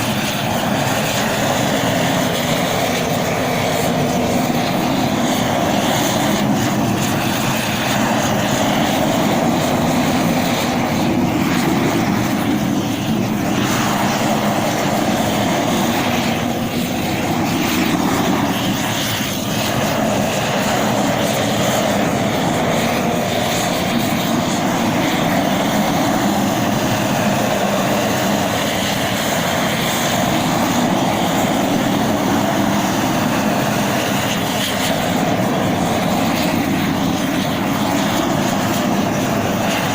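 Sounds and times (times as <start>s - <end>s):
roofing torch roaring: 0.0s - 39.9s.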